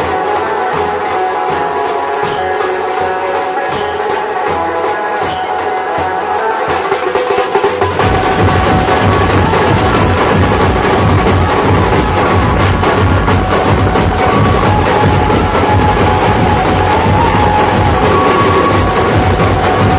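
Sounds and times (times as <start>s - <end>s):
sharp high drum stroke: 0.0s - 6.1s, 6.7s - 19.9s
drumming: 0.0s - 19.9s.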